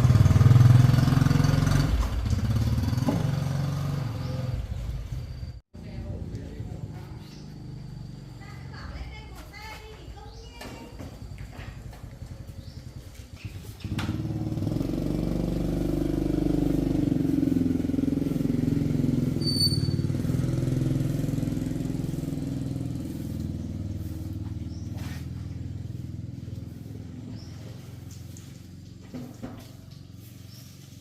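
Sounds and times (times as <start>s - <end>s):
motorcycle engine: 0.0s - 9.2s, 9.9s - 31.0s.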